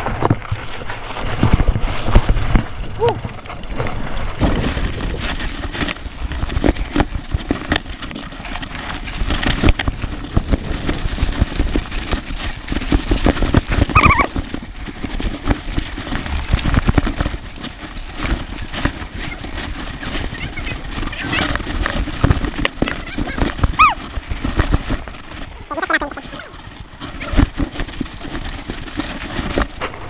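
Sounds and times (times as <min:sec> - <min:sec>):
mountain bike rattling on dirt trail: 0:00.0 - 0:30.0
wind rumble on microphone: 0:00.0 - 0:30.0.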